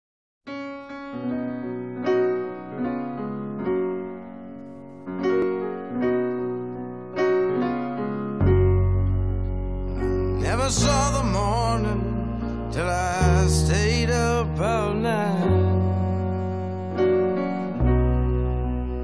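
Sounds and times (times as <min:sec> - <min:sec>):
slow piano ballad chords: 0:00.5 - 0:19.0.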